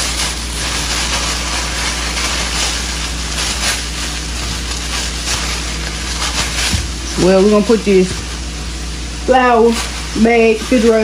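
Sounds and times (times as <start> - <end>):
chicken wings deep-frying: 0.0 - 11.0.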